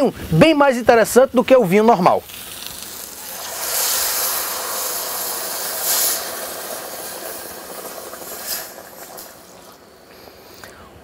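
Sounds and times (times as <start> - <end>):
wine hissing in a hot pan: 0.0 - 10.7.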